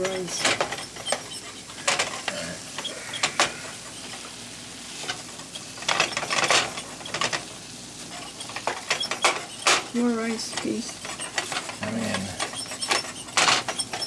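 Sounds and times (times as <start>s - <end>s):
utensil scraping and tapping a pan: 0.0s - 14.0s.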